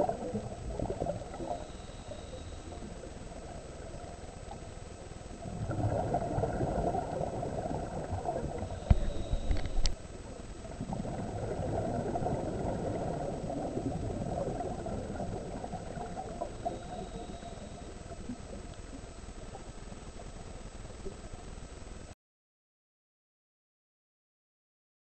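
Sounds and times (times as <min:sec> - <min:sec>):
underwater exhaust bubbling: 0:00.0 - 0:22.1.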